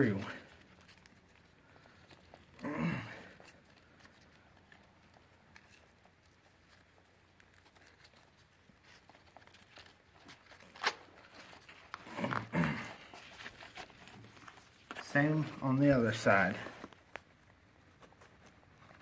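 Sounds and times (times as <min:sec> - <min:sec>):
straps rustling and scraping: 0:00.0 - 0:19.0.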